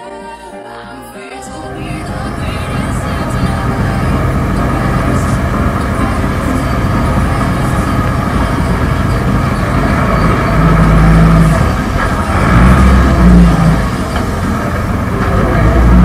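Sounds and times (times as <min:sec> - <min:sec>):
tractor diesel engine under load: 0:01.5 - 0:16.0.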